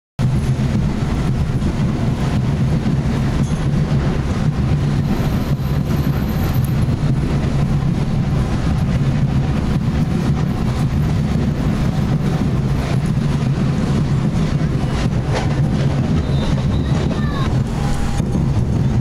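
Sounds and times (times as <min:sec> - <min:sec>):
drums beating rhythm: 0:00.2 - 0:19.0.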